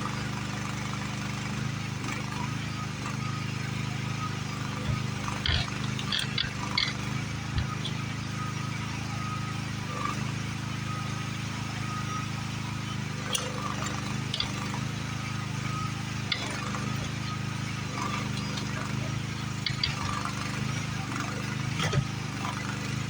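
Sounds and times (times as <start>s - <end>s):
demolition machine engine running: 0.0s - 23.0s.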